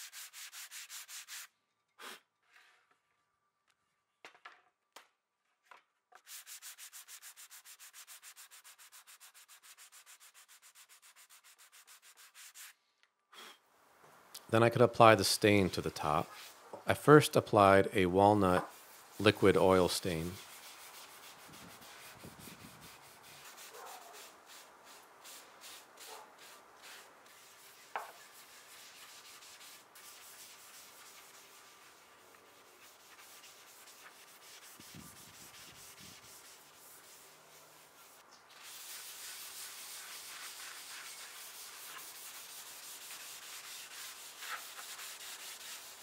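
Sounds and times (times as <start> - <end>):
brush rubbing on wood: 0.0 - 1.5, 6.2 - 12.8, 15.0 - 46.0
rag wiping wood: 0.0 - 1.5, 6.2 - 12.7, 15.0 - 46.0.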